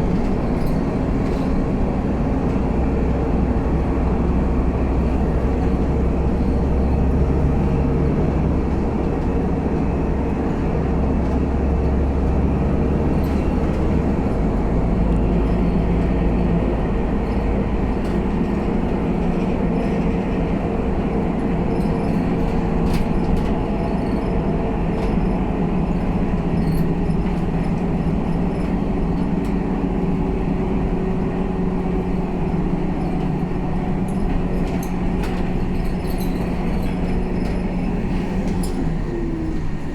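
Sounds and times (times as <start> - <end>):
bus diesel engine running: 0.0 - 39.9
road rumble: 0.0 - 39.9.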